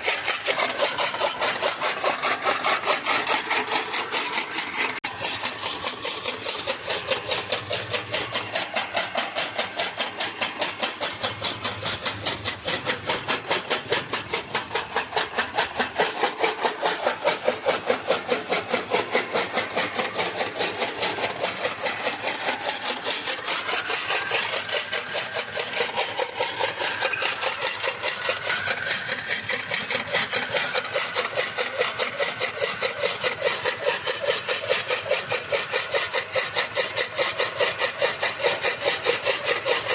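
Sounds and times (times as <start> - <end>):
chaff cutter chopping grass: 0.0 - 39.9
machine drone: 0.0 - 39.9.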